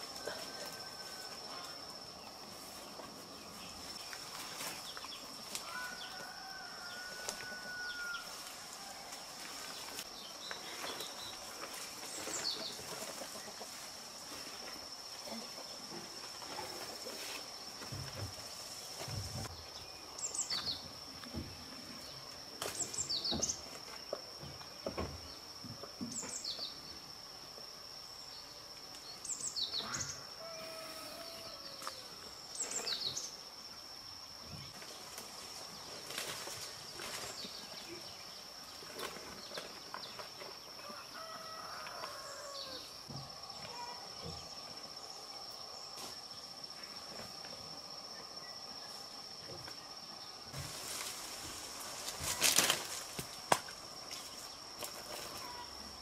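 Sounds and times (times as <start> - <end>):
high-pitched insect trill: 0.0 - 56.0.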